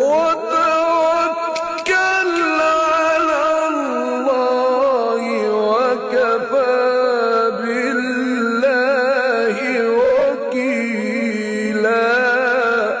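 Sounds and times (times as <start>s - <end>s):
man reciting melismatic chant: 0.0s - 13.0s.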